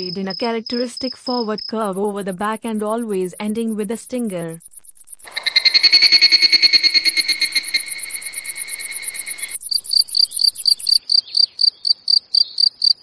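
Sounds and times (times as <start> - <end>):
insects trilling: 0.0 - 11.0
high insect chirps: 0.0 - 13.0.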